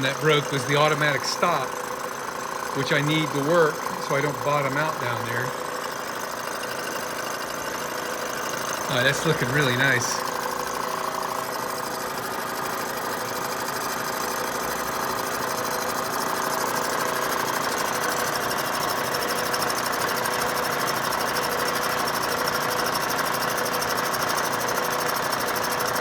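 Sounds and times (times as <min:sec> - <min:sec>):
milling machine whining and grinding: 0:00.0 - 0:26.0.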